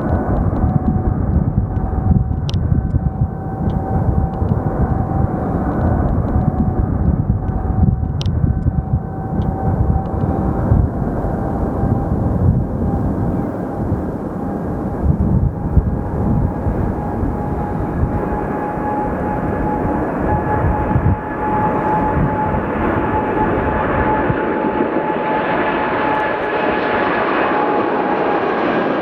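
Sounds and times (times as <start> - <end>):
jet engines rumbling: 0.0 - 29.0
thin steady whine: 0.0 - 29.0.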